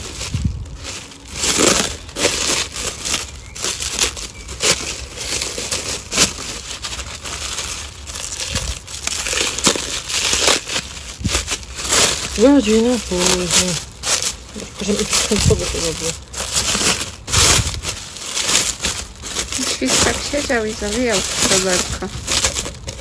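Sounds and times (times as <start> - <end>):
plastic wrap crinkling: 0.0 - 23.0.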